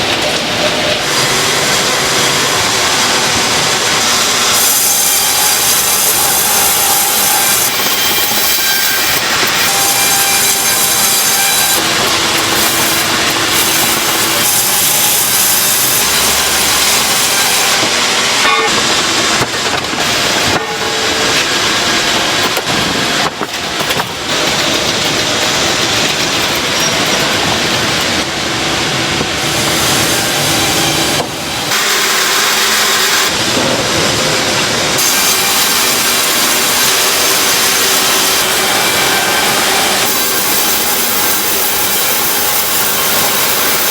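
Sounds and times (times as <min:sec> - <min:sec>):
factory machinery grinding and hissing: 0:00.0 - 0:43.9.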